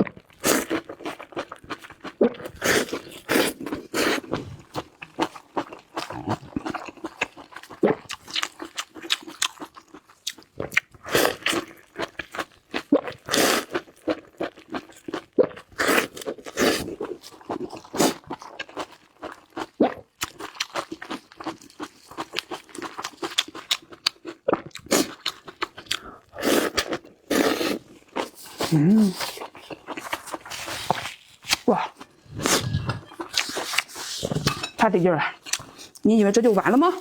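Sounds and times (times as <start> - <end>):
person chewing and crunching food: 0.0 - 37.0.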